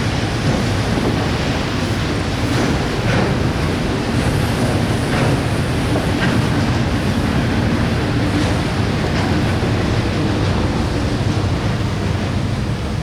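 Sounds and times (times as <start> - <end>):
freight train wheels rumbling on rail: 0.0 - 13.0
train wheels clicking: 0.0 - 13.0.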